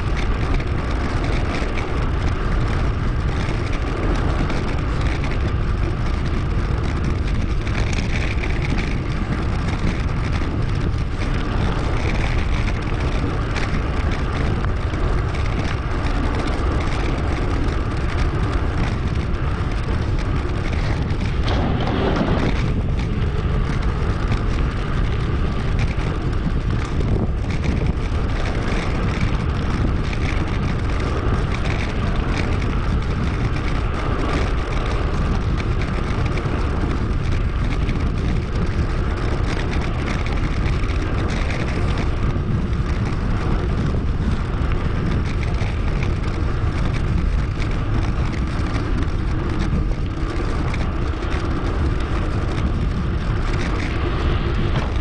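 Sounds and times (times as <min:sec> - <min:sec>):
bicycle tyre and road noise: 0:00.0 - 0:55.0
wind buffeting microphone: 0:00.0 - 0:55.0.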